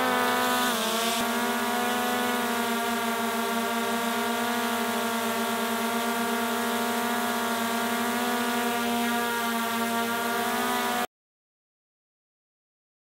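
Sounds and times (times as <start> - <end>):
drone propellers whining: 0.0 - 11.1.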